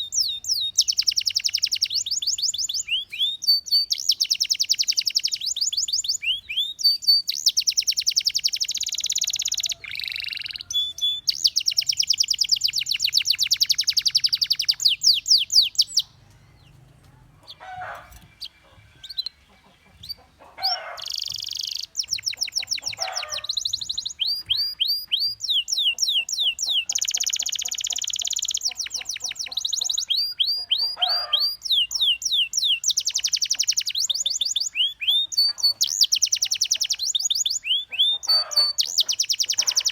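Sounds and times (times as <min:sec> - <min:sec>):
canary singing trills: 0:00.0 - 0:39.9
low bird chirps: 0:00.0 - 0:39.9.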